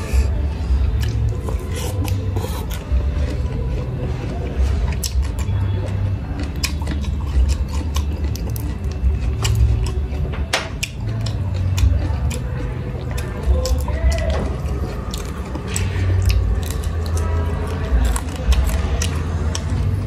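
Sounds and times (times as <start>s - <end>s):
chewing and mouth smacking: 0.0s - 20.0s
fingers tearing chicken: 0.0s - 20.0s.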